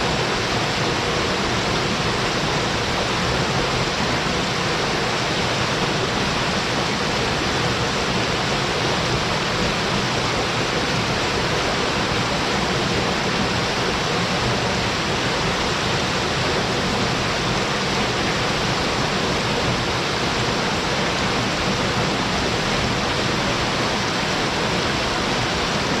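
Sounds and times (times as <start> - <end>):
waterfall pouring into pool: 0.0 - 26.0.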